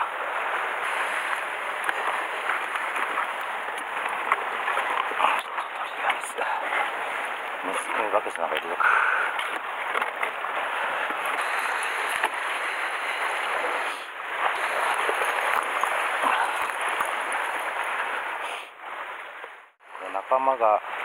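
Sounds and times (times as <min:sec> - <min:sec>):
sea water washing against rocks: 0:00.0 - 0:19.8.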